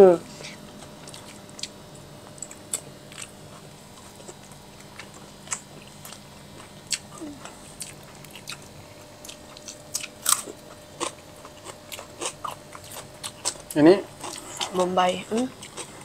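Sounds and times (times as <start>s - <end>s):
people chewing food: 0.3s - 16.0s.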